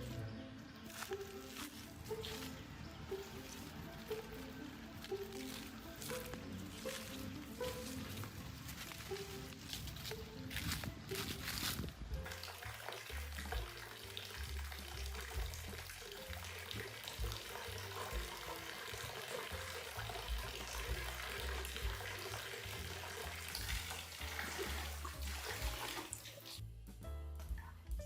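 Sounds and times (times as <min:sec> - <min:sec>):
running water: 0:00.0 - 0:26.6
background music: 0:00.0 - 0:28.0.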